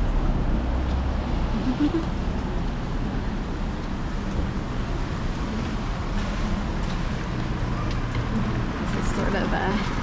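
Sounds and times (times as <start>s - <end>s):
continuous traffic hiss: 0.0s - 10.0s
traffic engine rumble: 0.0s - 10.0s.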